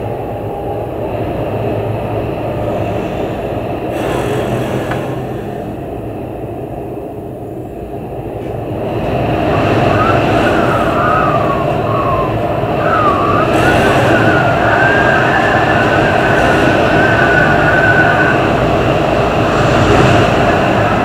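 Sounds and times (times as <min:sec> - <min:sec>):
high wind whistle: 0:00.0 - 0:21.0
storm wind gusting and howling: 0:00.0 - 0:21.0.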